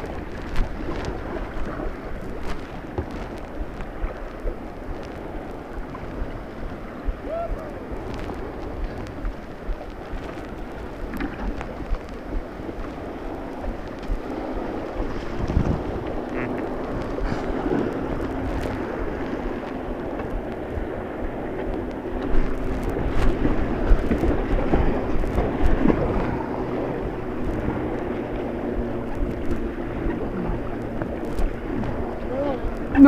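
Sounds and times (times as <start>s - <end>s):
white water rushing: 0.0s - 21.3s, 22.1s - 33.0s
paddle knocks and splashes: 0.0s - 33.0s
wind on microphone: 0.0s - 33.0s.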